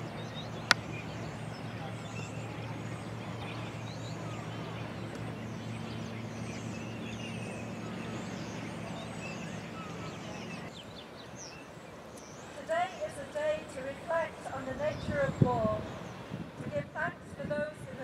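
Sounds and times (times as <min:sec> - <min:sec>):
small birds chirping: 0:00.0 - 0:13.7, 0:14.4 - 0:16.5
distant traffic hum: 0:00.0 - 0:18.0.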